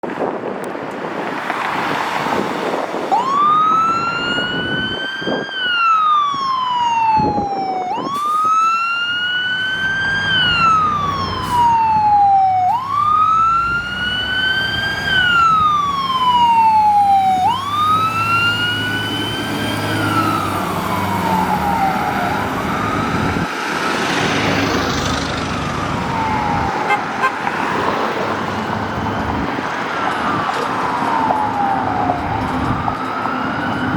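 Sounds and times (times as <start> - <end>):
fire engine wail siren: 1.5 - 33.9
truck engine rumbling: 2.2 - 33.9.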